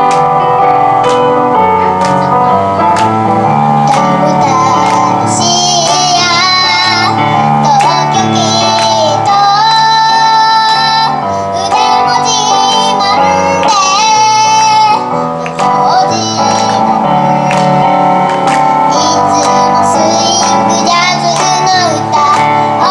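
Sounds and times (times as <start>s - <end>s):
instrumental accompaniment: 0.0s - 22.9s
girl singing: 1.6s - 18.1s, 18.8s - 22.9s.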